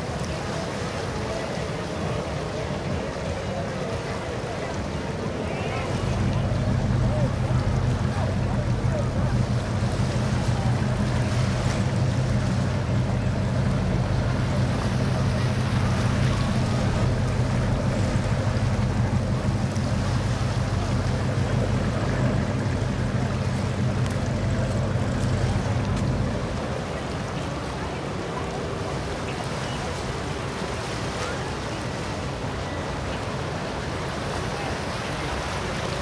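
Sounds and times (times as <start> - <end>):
powerboat engines idling: 0.0 - 36.0.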